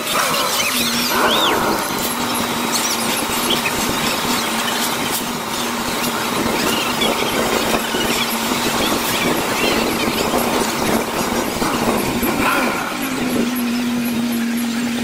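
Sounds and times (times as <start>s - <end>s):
sped-up crowd voices squeaking: 0.3s - 15.0s
steady hum: 0.8s - 14.8s.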